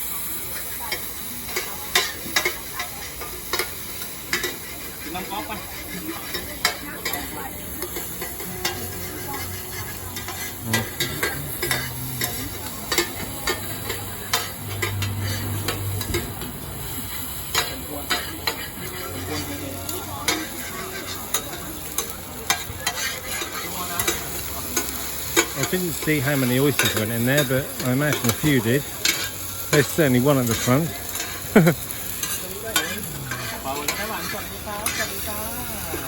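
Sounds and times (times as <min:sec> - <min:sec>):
omelette sizzling in oil: 0:00.0 - 0:36.0
metal spatula scraping pan: 0:03.2 - 0:19.7, 0:20.3 - 0:35.2.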